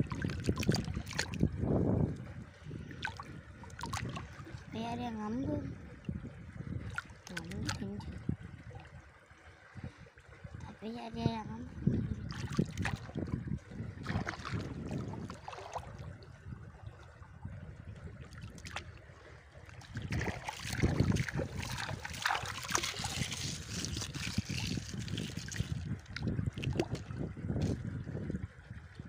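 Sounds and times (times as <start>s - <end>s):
river water sloshing and splashing: 0.0s - 29.0s.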